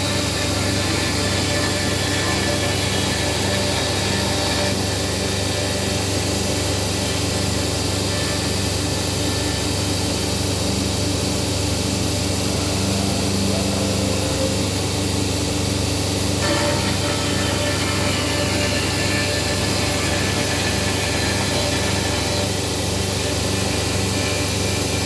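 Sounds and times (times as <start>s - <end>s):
woodworking machine cutting wood: 0.0s - 25.0s.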